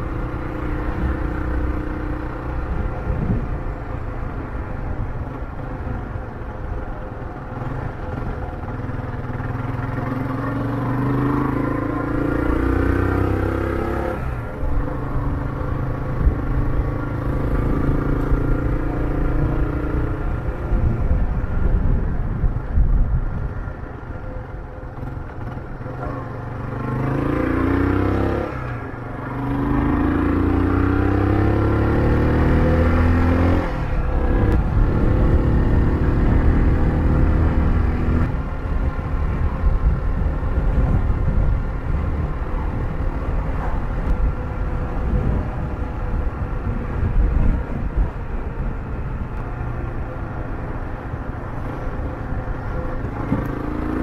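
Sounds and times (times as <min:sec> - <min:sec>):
motorcycle engine accelerating: 0:06.9 - 0:23.6, 0:24.8 - 0:54.0.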